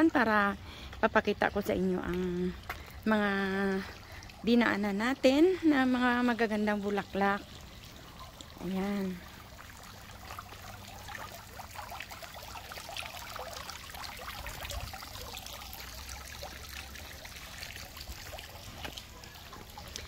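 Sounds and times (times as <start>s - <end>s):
fountain splashing and trickling: 0.0s - 20.0s.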